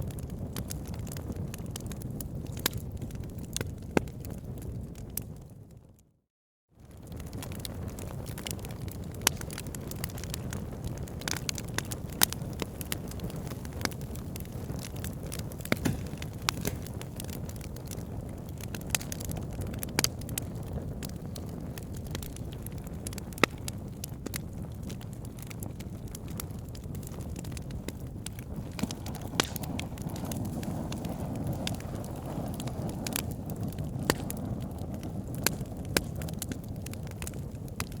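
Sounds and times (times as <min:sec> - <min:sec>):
burning logs crackling: 0:00.0 - 0:05.5, 0:06.8 - 0:38.0.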